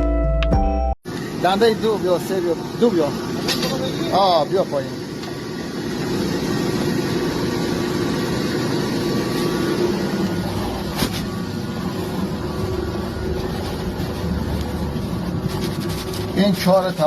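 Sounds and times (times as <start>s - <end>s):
drilling rig engine running: 1.1s - 17.0s.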